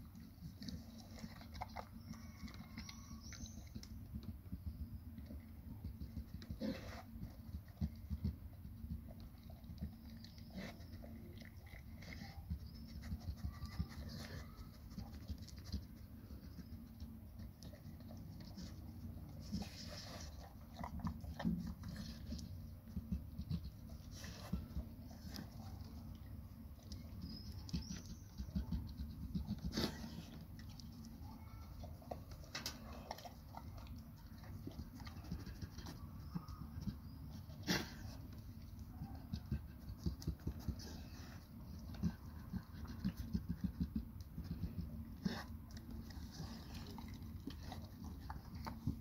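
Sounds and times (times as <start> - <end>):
dog licking and chewing: 0.0 - 49.0.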